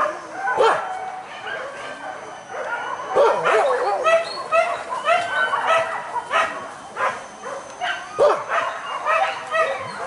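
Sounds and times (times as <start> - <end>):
dogs yelping and barking: 0.0 - 10.0
dogs yipping: 0.0 - 10.0.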